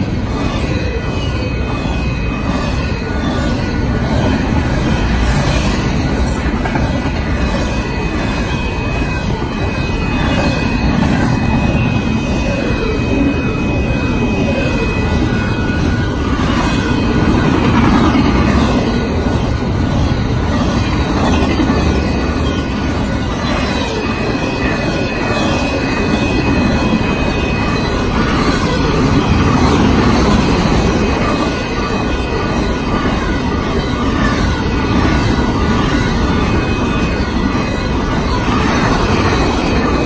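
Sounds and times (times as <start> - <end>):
high wheel squeal: 0.0 - 40.0
train wheels rumbling on rail: 0.0 - 40.0.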